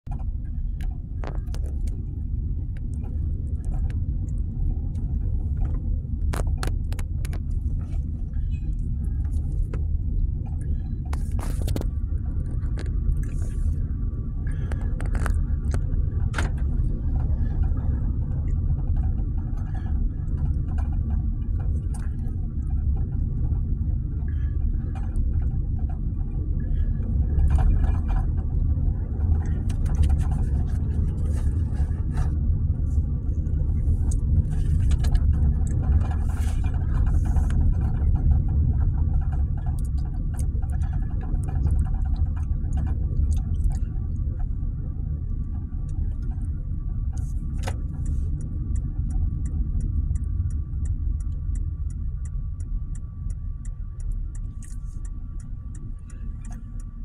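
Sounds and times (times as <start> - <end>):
car cabin road rumble: 0.0 - 57.0
light clicks and rattles: 0.1 - 57.0.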